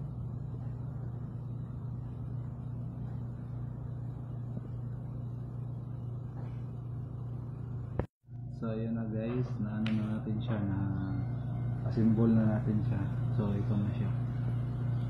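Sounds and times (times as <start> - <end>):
motor or fan humming: 0.0 - 15.0.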